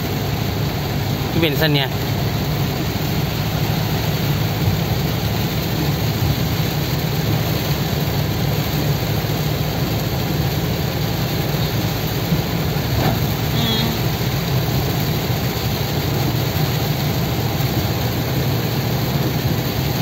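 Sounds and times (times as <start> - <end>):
engine hum: 0.0 - 20.0
heavy rain on car roof: 0.0 - 20.0
tyres on wet road: 0.0 - 20.0.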